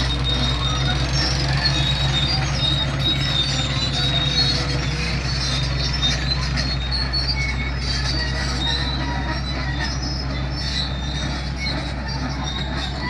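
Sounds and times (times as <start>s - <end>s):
diesel engine hum: 0.0s - 13.0s
high metallic squeals: 0.0s - 13.0s.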